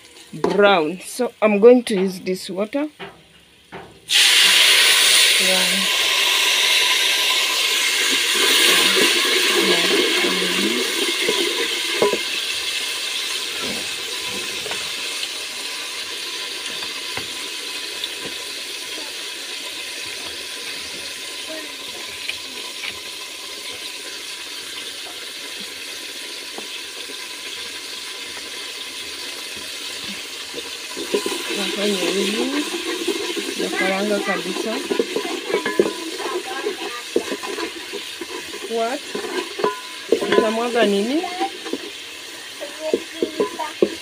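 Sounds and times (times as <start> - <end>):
onions sizzling in a saucepan: 0.0 - 44.0.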